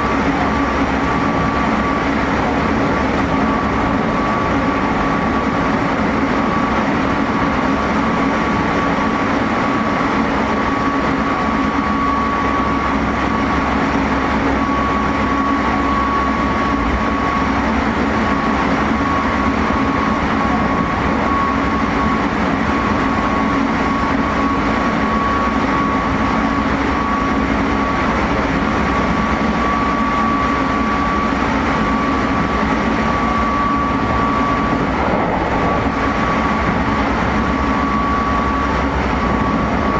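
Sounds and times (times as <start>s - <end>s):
steady high-pitched motor tone: 0.0s - 39.9s
wheel and rail noise: 0.0s - 39.9s.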